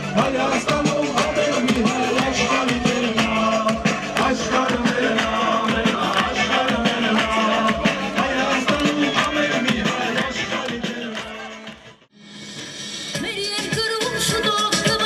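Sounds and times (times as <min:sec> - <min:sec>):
upbeat dance music: 0:00.0 - 0:15.0.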